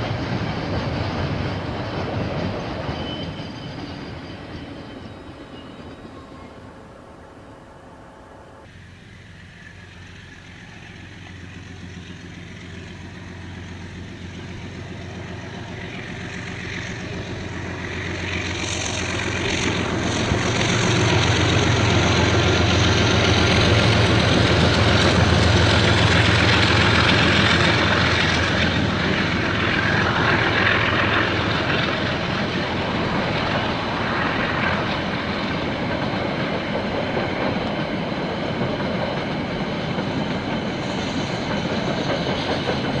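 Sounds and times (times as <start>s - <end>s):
diesel locomotive engine drone: 0.0s - 43.0s
train wagons rolling: 0.0s - 43.0s.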